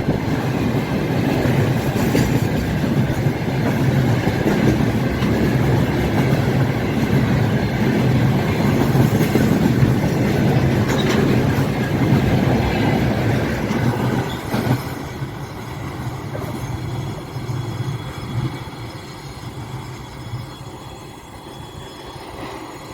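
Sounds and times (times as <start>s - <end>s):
train wheels clattering over rail joints: 0.0s - 22.7s.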